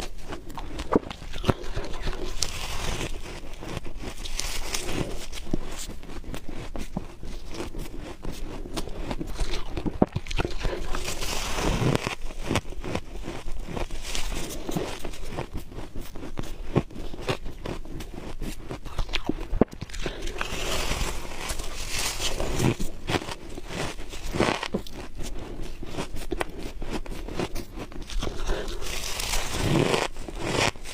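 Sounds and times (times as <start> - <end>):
biting crunchy frost: 0.0 - 30.9.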